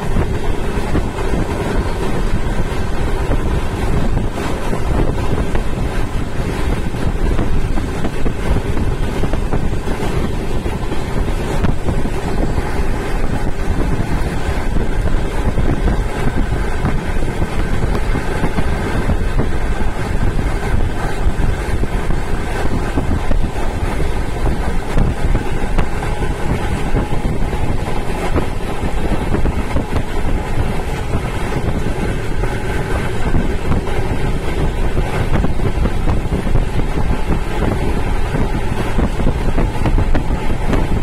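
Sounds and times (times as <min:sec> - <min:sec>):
train wheels rumbling on rails: 0:00.0 - 0:41.0
wind buffeting microphone: 0:00.0 - 0:41.0.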